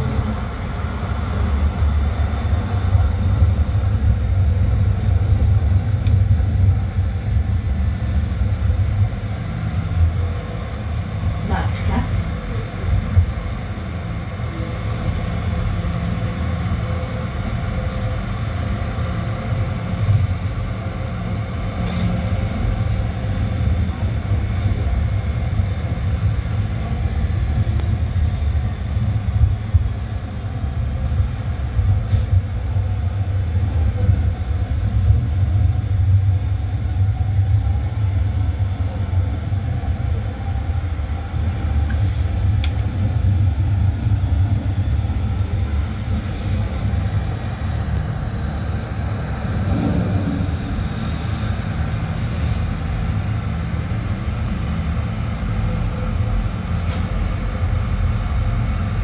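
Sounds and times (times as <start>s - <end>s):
tram wheels rumbling on rails: 0.0s - 59.0s.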